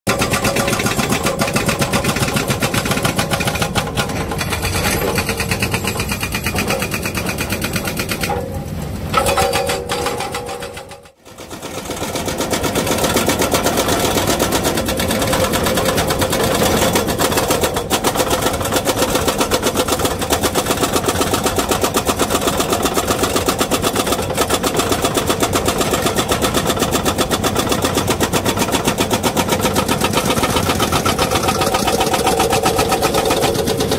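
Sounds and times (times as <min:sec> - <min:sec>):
excavator engine running: 0:00.1 - 0:33.9
hydraulic breaker hammering rock: 0:00.1 - 0:33.9.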